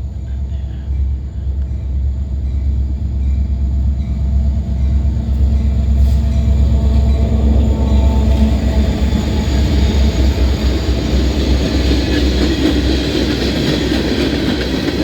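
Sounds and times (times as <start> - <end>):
diesel locomotive rumbling past: 0.0 - 15.0.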